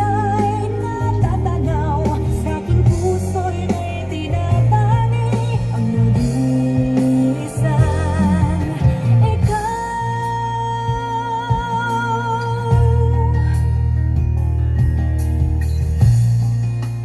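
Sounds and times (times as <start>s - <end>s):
sung ballad with heavy bass: 0.0s - 17.0s.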